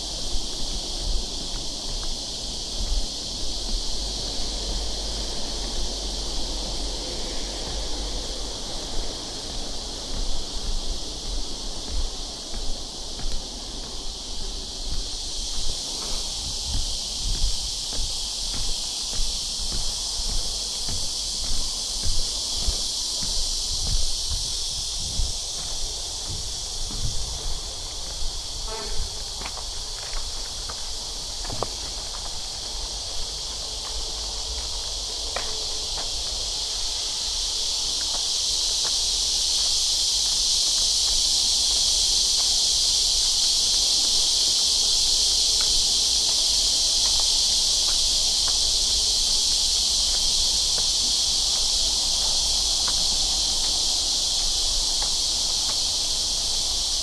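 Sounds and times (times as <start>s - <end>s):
cicadas singing: 0.0s - 57.0s
light footsteps: 0.0s - 57.0s.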